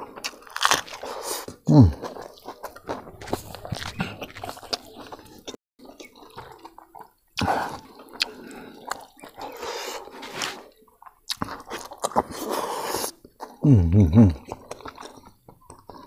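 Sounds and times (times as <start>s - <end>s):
wet chewing and lip-smacking: 0.0s - 13.7s, 14.3s - 16.0s.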